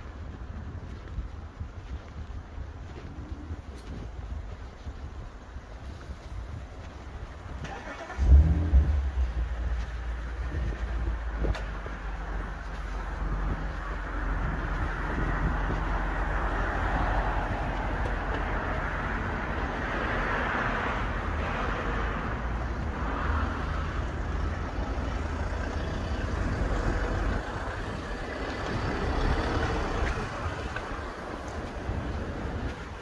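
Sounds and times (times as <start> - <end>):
vehicles passing close by: 0.0 - 33.0.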